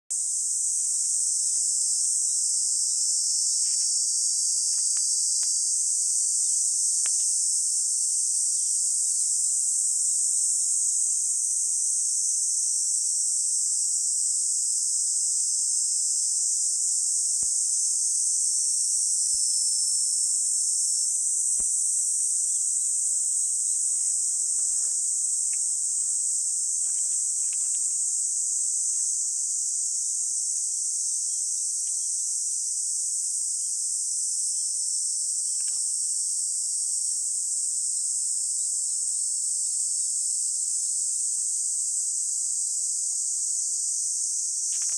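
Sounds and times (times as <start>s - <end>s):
cicadas singing: 0.1s - 44.9s.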